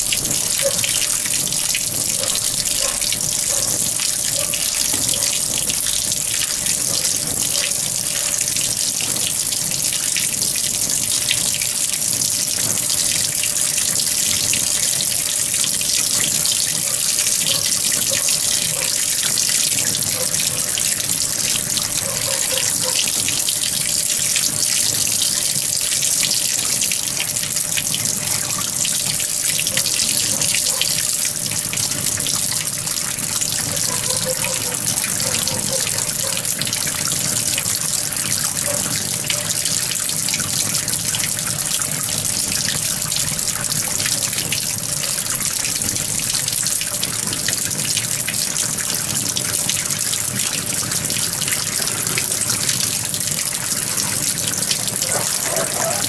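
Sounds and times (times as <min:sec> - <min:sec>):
water filling washing machine: 0:00.0 - 0:56.0.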